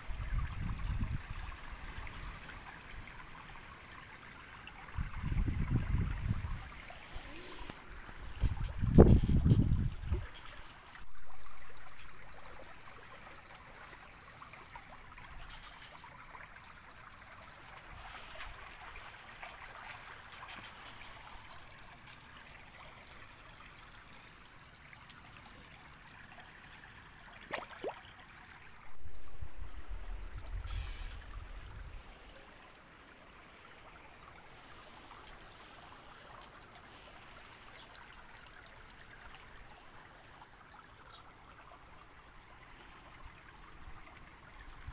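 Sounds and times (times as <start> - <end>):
stream water trickling: 0.0 - 44.9.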